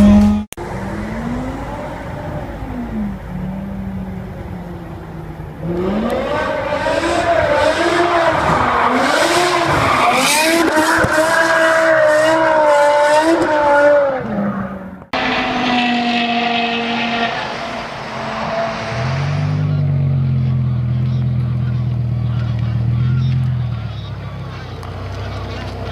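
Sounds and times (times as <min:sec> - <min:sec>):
engine revving: 0:00.0 - 0:25.9.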